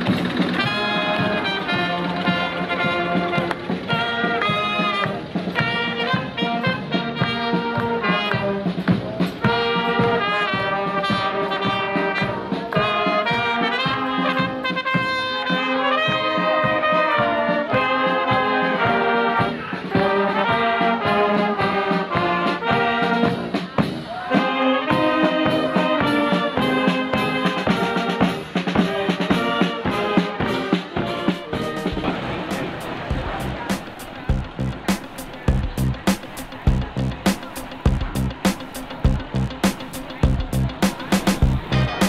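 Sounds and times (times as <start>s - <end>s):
brass band music: 0.0s - 42.0s.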